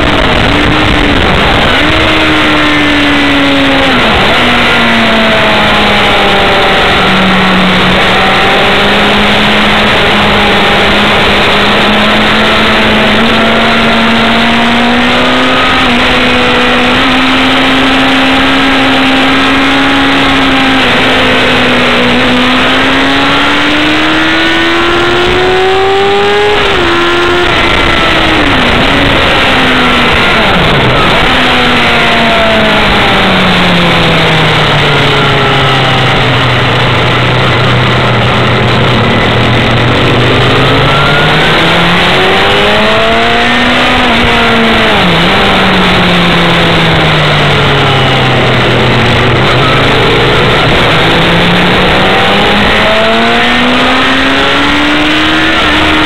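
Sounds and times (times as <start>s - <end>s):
motorcycle engine at speed: 0.0s - 56.0s
wind rush: 0.0s - 56.0s.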